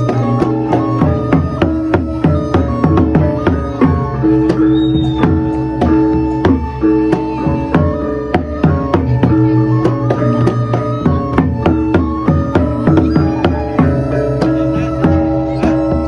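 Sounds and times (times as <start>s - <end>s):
gamelan playing: 0.0s - 16.0s
sharp percussive strikes: 0.0s - 16.0s.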